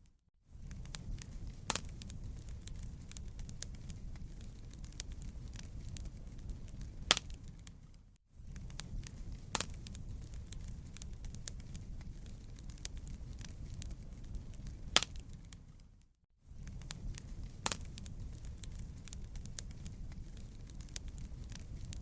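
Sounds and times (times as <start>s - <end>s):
low rumble of flames: 0.5s - 22.0s
wood fire crackling: 0.5s - 22.0s.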